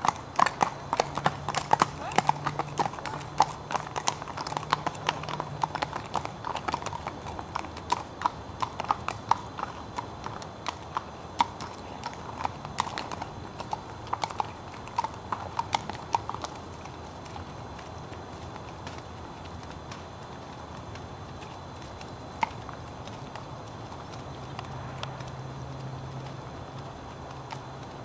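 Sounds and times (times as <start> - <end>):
hooves clip-clopping on wet road: 0.0 - 28.0.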